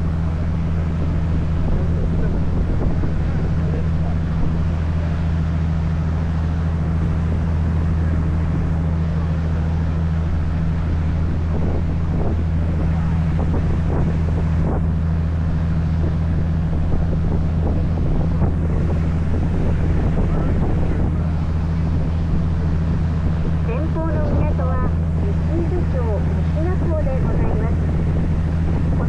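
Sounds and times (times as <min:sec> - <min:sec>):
boat engine droning: 0:00.0 - 0:29.0
water rushing past hull: 0:00.0 - 0:29.0
wind buffeting microphone: 0:00.0 - 0:29.0.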